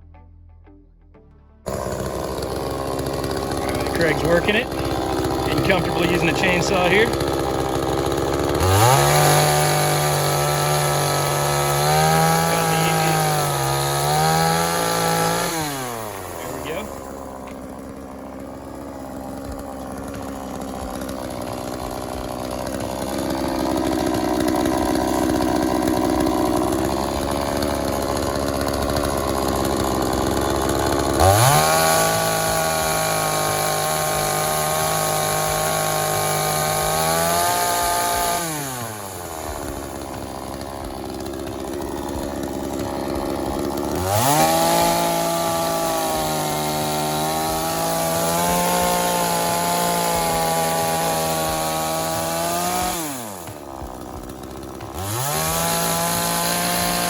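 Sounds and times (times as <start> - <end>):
chainsaw engine revving: 1.7 - 57.0.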